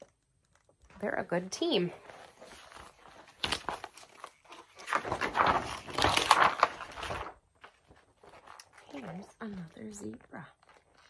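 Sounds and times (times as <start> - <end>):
book pages rustling: 0.0 - 11.0.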